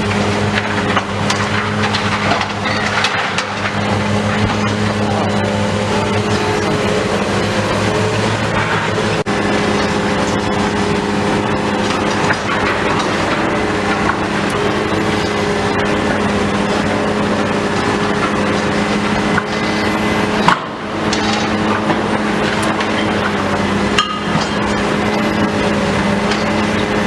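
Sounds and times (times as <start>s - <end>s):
demolition machine engine running: 0.0s - 27.0s.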